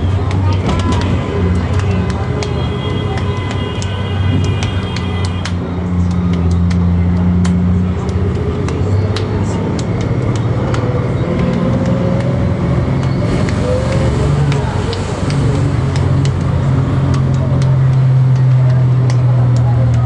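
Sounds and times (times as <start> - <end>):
bus engine hum: 0.0 - 20.0.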